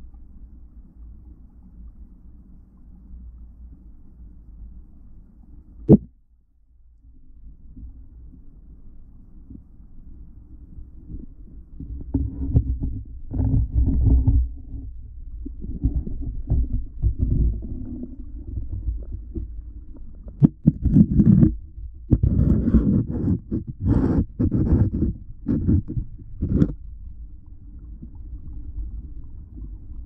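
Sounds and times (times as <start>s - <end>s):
muffled underwater rumble: 0.0s - 30.0s.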